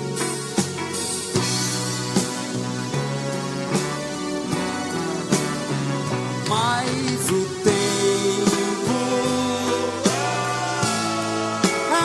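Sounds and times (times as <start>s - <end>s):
drum kit: 0.0s - 12.0s
electric guitar: 0.0s - 12.0s.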